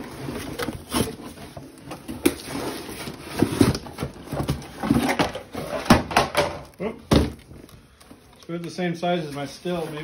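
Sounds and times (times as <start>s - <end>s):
cardboard packaging rustling: 0.0s - 10.0s.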